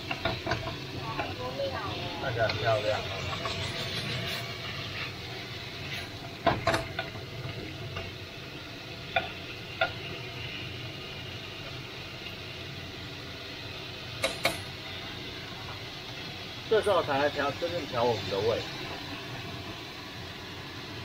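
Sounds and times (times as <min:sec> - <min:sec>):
stir-fry sizzling in a pan: 0:00.0 - 0:21.0.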